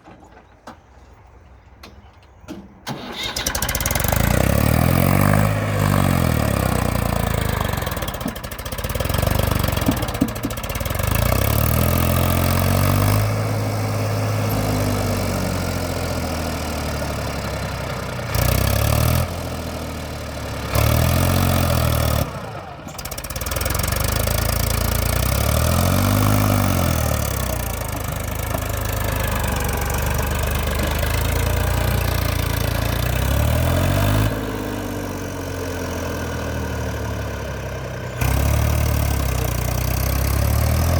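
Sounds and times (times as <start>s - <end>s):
tractor diesel engine revving: 2.9s - 40.9s.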